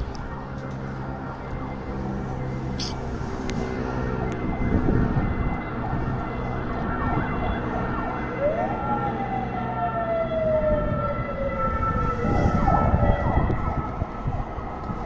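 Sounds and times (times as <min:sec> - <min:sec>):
siren-like wailing tone: 0:01.2 - 0:15.0.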